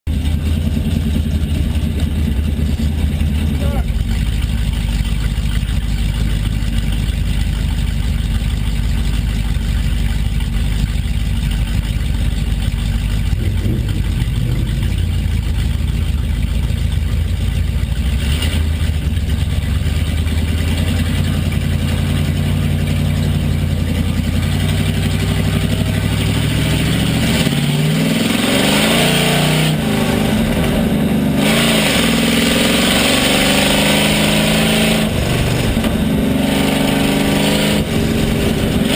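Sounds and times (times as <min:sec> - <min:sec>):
race car engine revving: 0:00.1 - 0:06.9, 0:11.8 - 0:17.3, 0:18.0 - 0:38.9.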